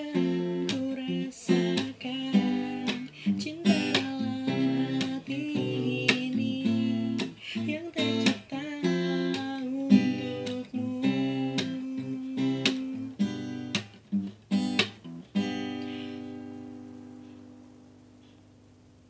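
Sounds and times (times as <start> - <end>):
acoustic guitar strumming chords: 0.0 - 18.6.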